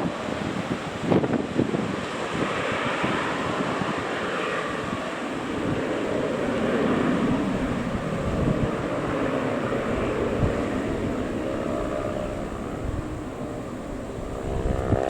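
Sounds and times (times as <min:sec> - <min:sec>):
aircraft engines roaring: 0:00.0 - 0:15.0
wind buffeting microphone: 0:00.0 - 0:15.0.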